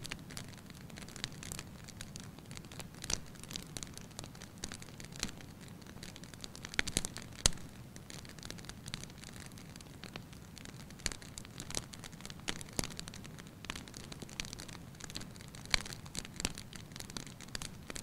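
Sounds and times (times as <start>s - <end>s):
low rumble of fire: 0.0s - 18.0s
wood fire popping and snapping: 0.0s - 18.0s.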